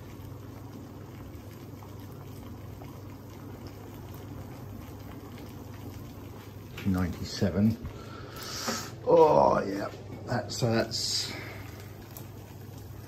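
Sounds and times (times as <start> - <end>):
water boiling and bubbling: 0.0 - 13.0.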